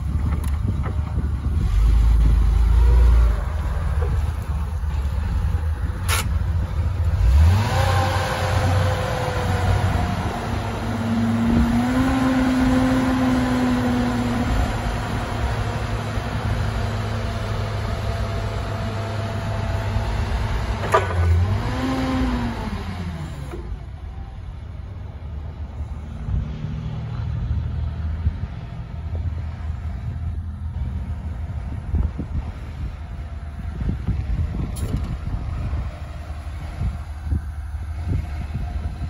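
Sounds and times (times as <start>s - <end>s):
forklift engine running: 0.0s - 39.0s.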